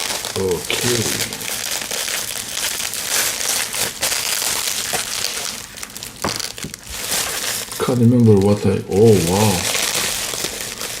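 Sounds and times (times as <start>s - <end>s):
packing material crinkling: 0.0s - 11.0s.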